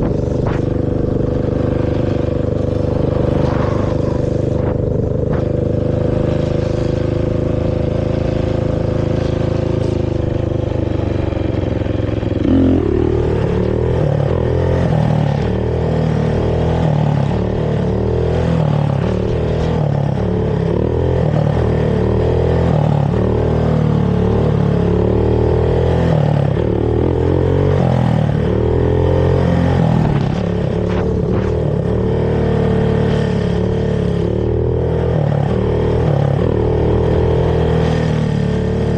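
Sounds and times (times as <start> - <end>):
quad bike engine revving: 0.0 - 38.9.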